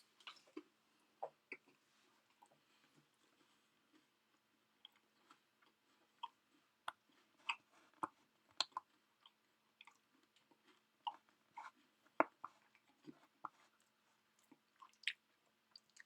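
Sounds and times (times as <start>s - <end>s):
person chewing food: 0.1s - 16.0s.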